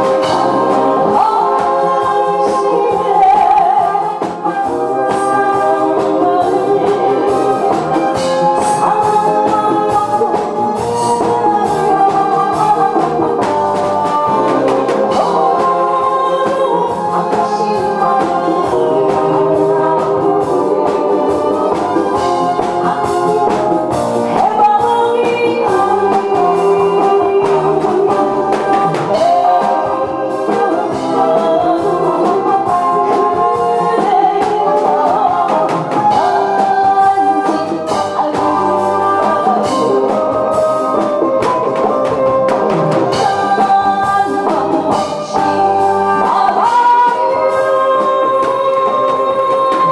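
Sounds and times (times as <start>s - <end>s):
instrumental accompaniment with beat: 0.0s - 49.9s
woman singing into microphone: 0.0s - 49.9s.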